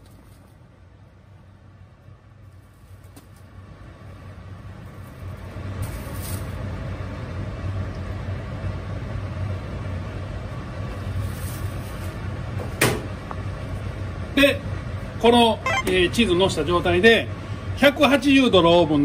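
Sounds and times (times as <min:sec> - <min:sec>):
low mechanical rumble: 0:00.0 - 0:17.8.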